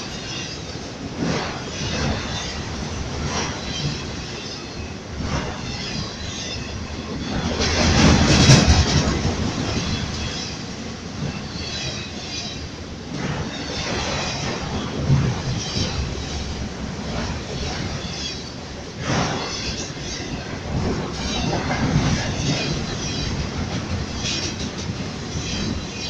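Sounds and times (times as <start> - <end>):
train wheels clacking: 0.0 - 26.0.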